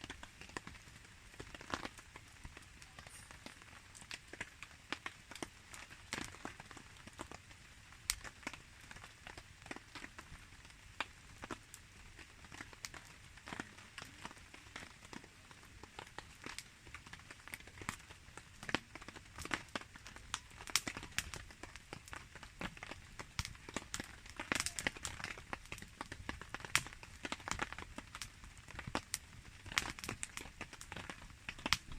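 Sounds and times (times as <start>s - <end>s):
campfire crackling and popping: 0.0s - 31.9s
rain pattering: 0.0s - 31.9s.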